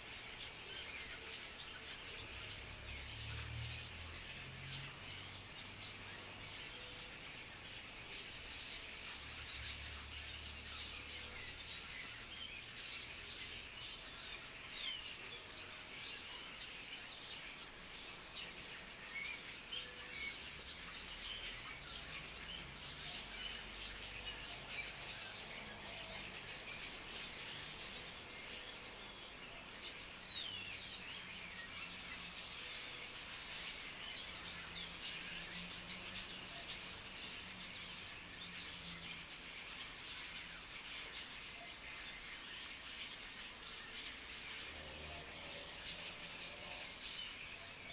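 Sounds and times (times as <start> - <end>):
starlings chattering and whistling: 0.0 - 47.9.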